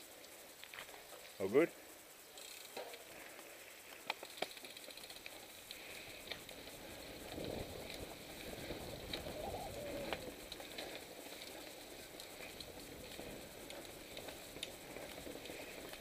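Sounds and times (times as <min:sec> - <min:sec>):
bike clicks and rattles: 0:00.0 - 0:16.0
bike tyres rolling on gravel: 0:00.0 - 0:16.0.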